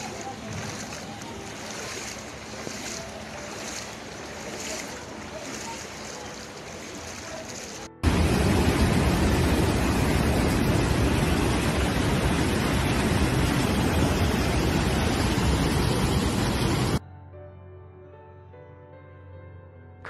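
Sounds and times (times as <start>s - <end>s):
floodwater rushing over a wall: 0.0s - 17.0s.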